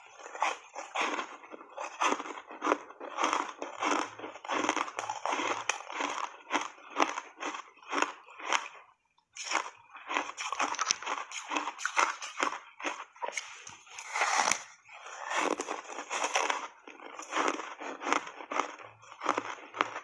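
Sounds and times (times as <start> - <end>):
ice being chewed: 0.0 - 20.0.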